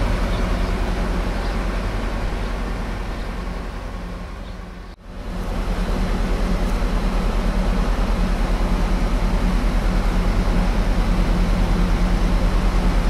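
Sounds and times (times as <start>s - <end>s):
heavy machine engine throbbing: 0.0s - 13.0s.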